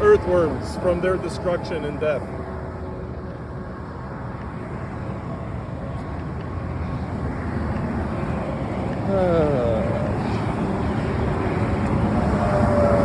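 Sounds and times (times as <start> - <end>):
traffic on a wet road: 0.0 - 13.0.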